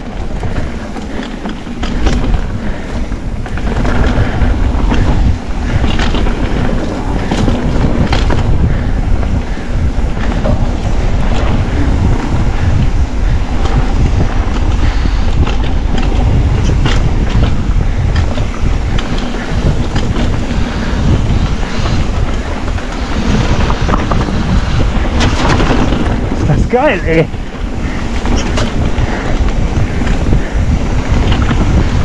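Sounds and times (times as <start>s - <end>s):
bike rattles and knocks: 0.0s - 32.0s
bike tyre noise: 0.0s - 32.0s
wind buffeting microphone: 0.0s - 32.0s.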